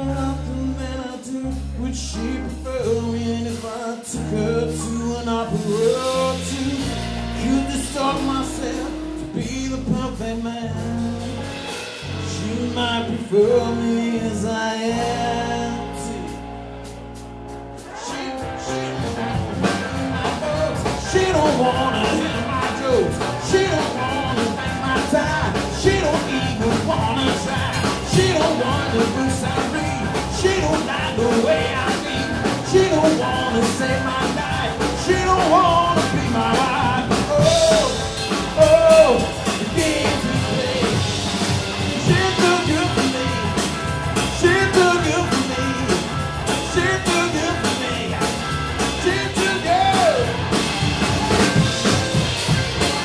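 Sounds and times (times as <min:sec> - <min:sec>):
drum kit: 0:00.0 - 0:53.0
electric bass: 0:00.0 - 0:53.0
electric guitar: 0:00.0 - 0:53.0.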